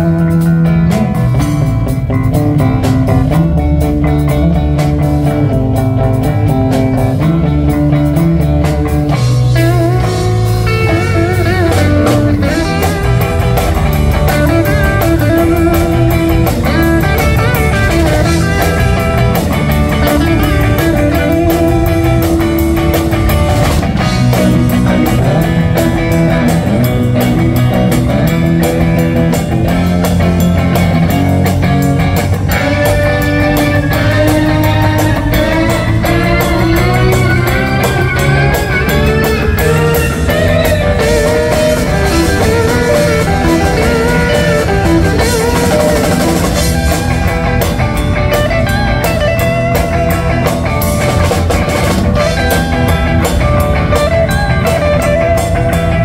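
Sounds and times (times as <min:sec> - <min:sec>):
live electric band playing: 0:00.0 - 0:56.0
wavering lead guitar: 0:00.0 - 0:56.0.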